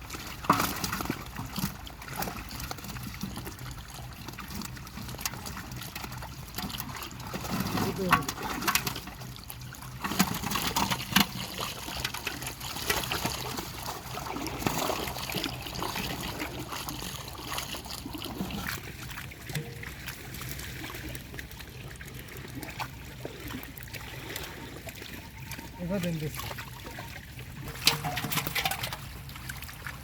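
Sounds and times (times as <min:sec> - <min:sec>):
pond water splashing and trickling: 0:00.0 - 0:30.0
small sharp splashes and drips: 0:00.0 - 0:30.0.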